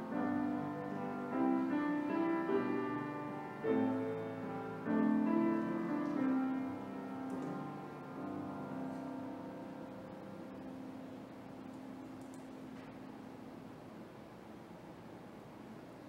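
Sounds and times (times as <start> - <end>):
slow piano chords: 0.0 - 14.1.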